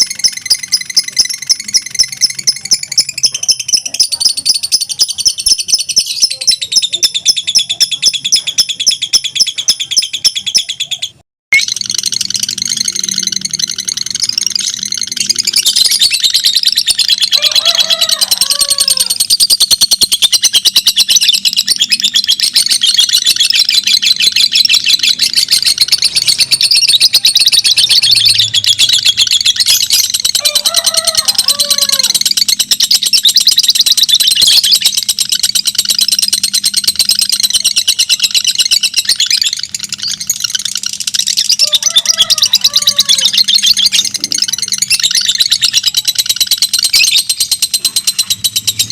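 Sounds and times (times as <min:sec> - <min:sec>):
lovebirds chattering in trills: 0:00.0 - 0:48.9.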